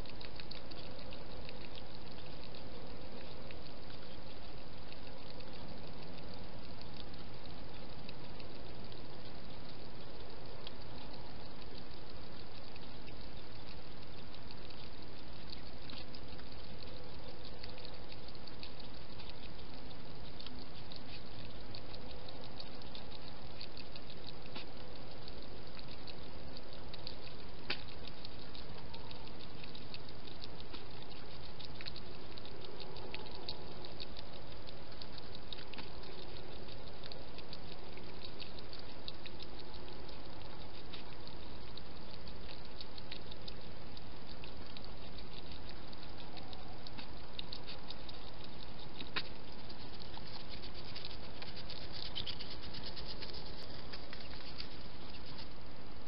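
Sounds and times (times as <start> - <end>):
hedgehog eating clicks and smacks: 0.0 - 56.0
steady hiss: 0.0 - 56.0.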